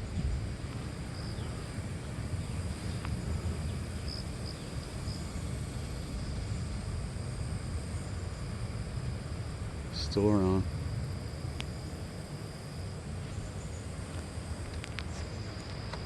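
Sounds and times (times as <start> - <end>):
low rumbling drone: 0.0 - 15.8.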